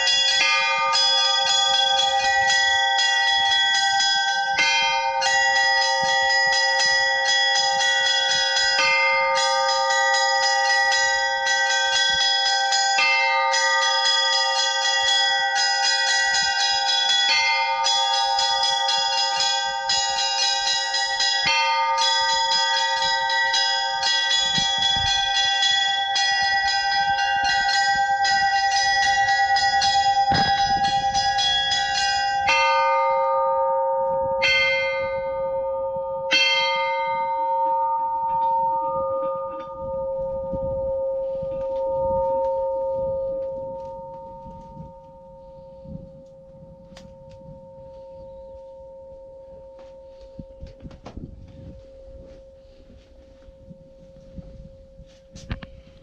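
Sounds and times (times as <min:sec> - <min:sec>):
large bells ringing: 0:00.0 - 0:56.0.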